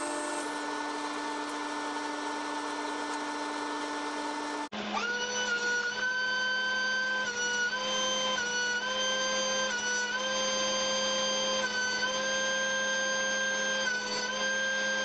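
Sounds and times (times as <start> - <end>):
thickness planer motor whine: 0.0 - 15.0.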